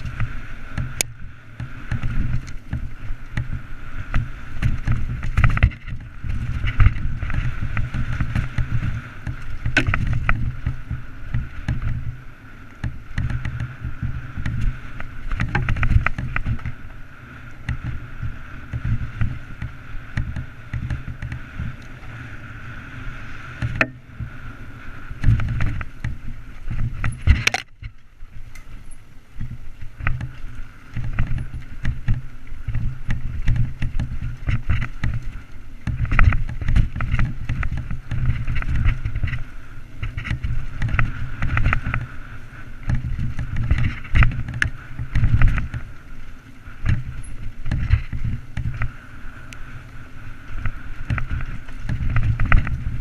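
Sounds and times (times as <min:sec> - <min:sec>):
bike rattling and knocking: 0:00.0 - 0:53.0.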